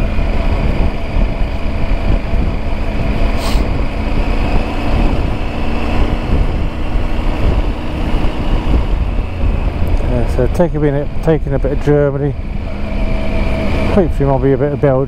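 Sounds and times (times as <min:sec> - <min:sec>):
motorcycle engine drone: 0:00.0 - 0:15.0
wind rumble on microphone: 0:00.0 - 0:15.0.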